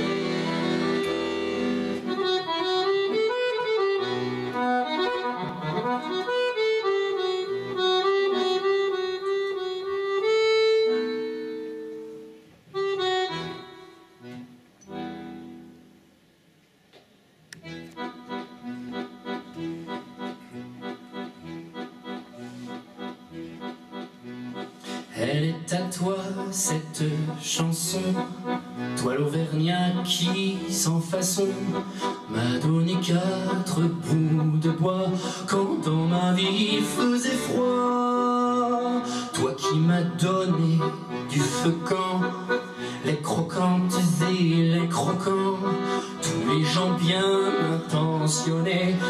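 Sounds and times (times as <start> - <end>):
accordion playing: 0.0 - 16.0, 17.5 - 49.0.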